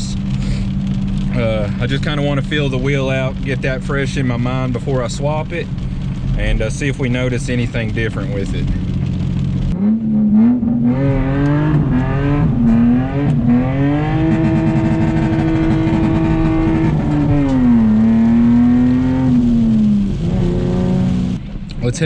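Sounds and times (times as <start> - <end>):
car engine pulling: 0.0 - 22.0.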